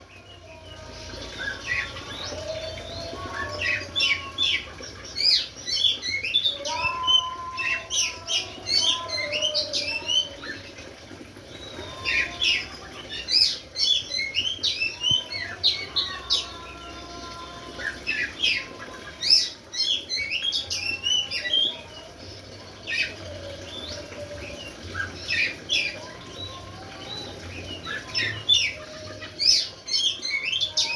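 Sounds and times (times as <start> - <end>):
bird singing chirps and whistles: 0.1 - 30.9.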